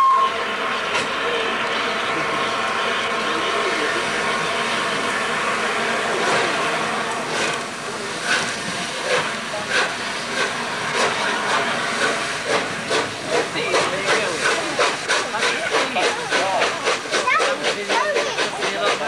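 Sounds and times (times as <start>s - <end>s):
steam locomotive exhaust chuffs: 0.0s - 19.0s
hiss of escaping steam: 2.2s - 19.0s.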